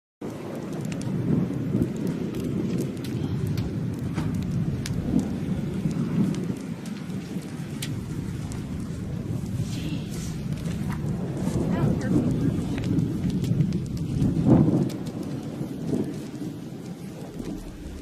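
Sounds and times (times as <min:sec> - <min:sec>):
raindrops ticking on surface: 0:00.2 - 0:18.0
low rumble: 0:01.4 - 0:18.0.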